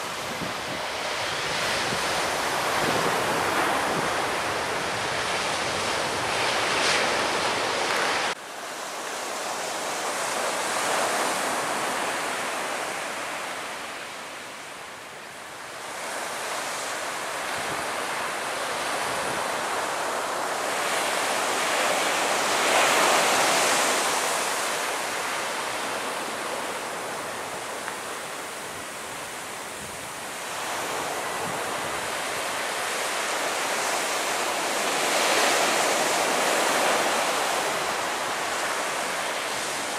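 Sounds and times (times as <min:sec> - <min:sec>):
wind on microphone: 0:00.0 - 0:08.4, 0:15.9 - 0:39.9
surf breaking on beach: 0:00.0 - 0:13.9, 0:15.9 - 0:39.9.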